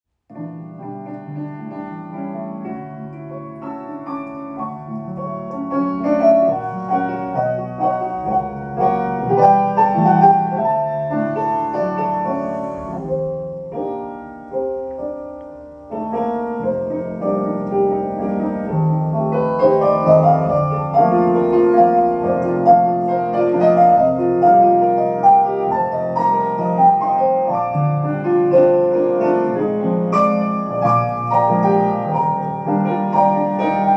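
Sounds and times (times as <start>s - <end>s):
solo piano music: 0.3s - 33.9s.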